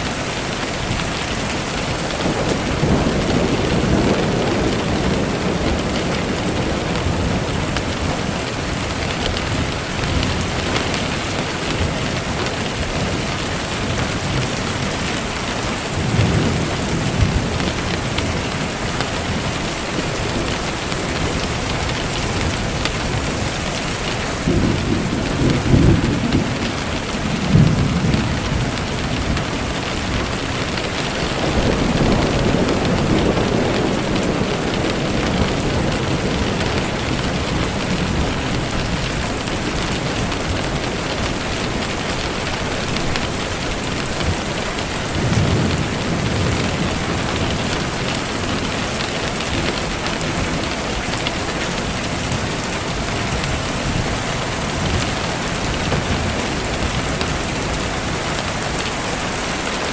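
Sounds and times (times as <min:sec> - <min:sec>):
steady rain hissing: 0:00.0 - 0:59.9
low rolls of thunder: 0:00.8 - 0:59.9.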